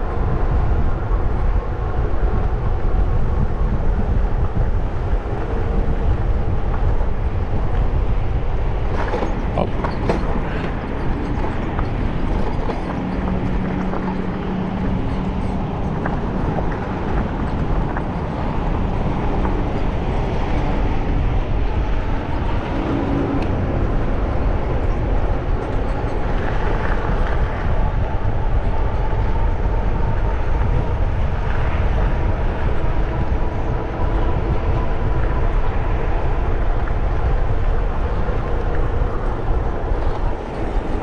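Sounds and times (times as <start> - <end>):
bicycle tyres rolling rumble: 0.0 - 41.0
wind rush: 0.0 - 41.0.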